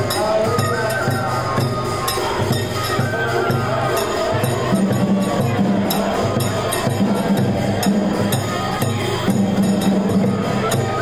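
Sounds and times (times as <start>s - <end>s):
percussion steady beat: 0.0s - 11.0s.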